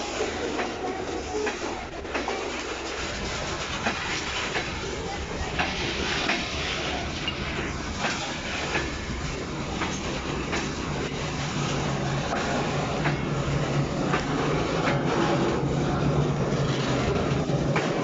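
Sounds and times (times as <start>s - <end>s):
train rumble: 0.0s - 18.0s
train wheels clicking over rail joints: 0.0s - 18.0s.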